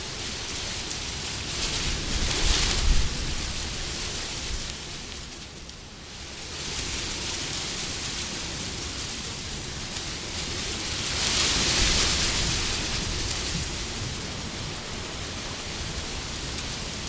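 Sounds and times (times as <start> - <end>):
wind blowing in gusts: 0.0 - 5.3, 6.1 - 17.0.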